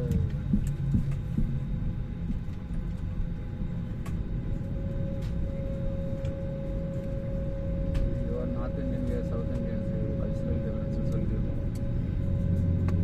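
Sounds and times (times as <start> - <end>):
jet engine rumble: 0.0 - 13.0
thin steady whine: 0.0 - 13.0.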